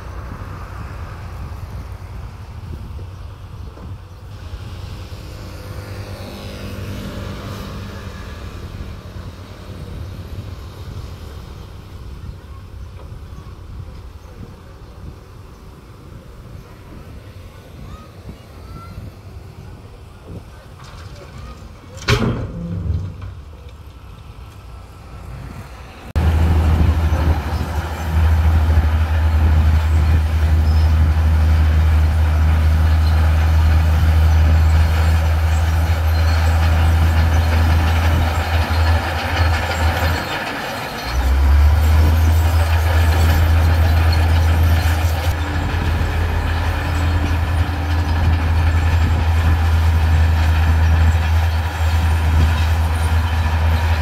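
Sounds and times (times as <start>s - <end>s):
diesel machinery droning: 0.0s - 18.3s, 19.0s - 54.0s.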